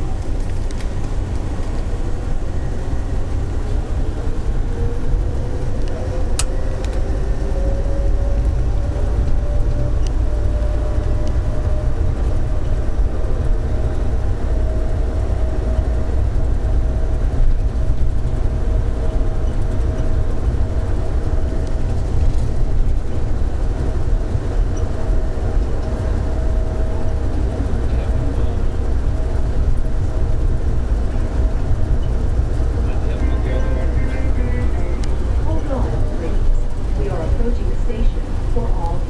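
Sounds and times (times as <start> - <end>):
steady train whine: 0.0 - 39.0
train rumble: 0.0 - 39.0.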